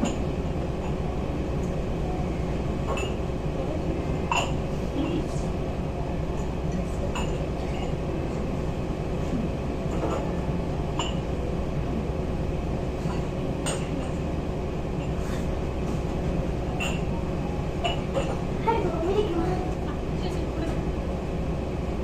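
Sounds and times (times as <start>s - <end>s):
ship engine rumble: 0.0s - 22.0s.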